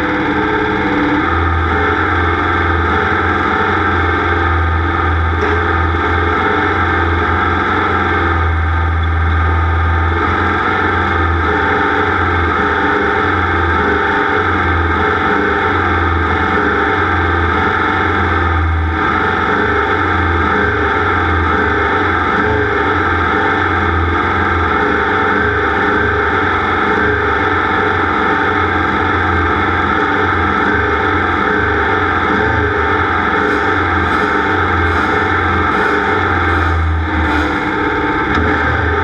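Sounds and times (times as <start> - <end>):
racing engine at high revs: 0.0 - 39.0.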